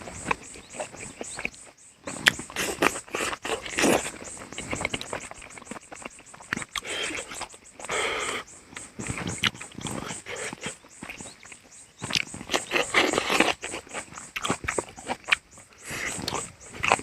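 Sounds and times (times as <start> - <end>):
person chewing and smacking: 0.0 - 17.0.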